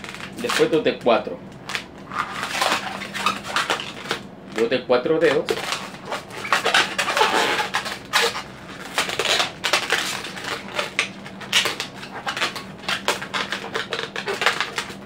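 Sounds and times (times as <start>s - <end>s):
balloon squeaking and creaking: 0.0s - 15.0s.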